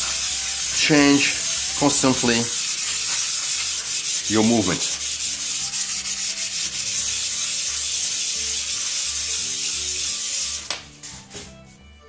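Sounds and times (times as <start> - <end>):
metal plate sanding on sandpaper: 0.0 - 10.7.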